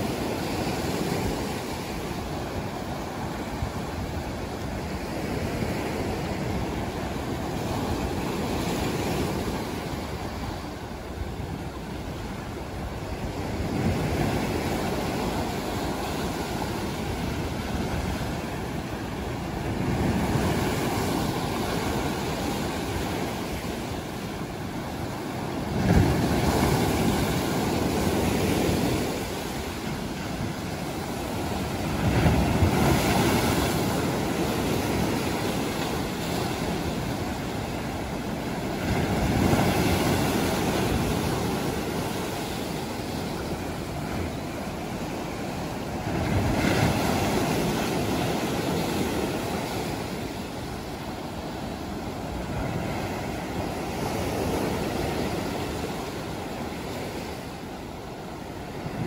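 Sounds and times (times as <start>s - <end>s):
sea waves breaking over rocks: 0.0s - 59.0s.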